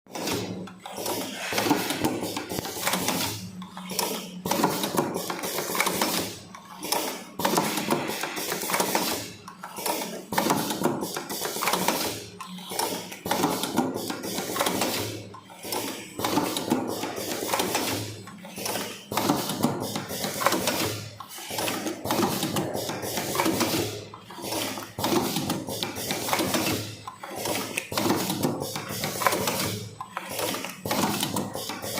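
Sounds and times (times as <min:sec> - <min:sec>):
cartoning machine clattering: 0:00.1 - 0:31.9.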